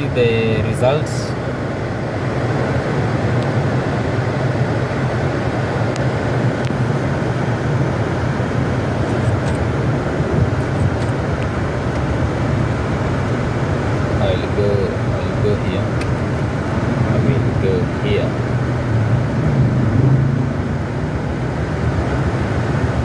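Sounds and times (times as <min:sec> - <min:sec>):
air conditioning fan blowing: 0:00.0 - 0:23.0
engine and road rumble: 0:00.0 - 0:23.0.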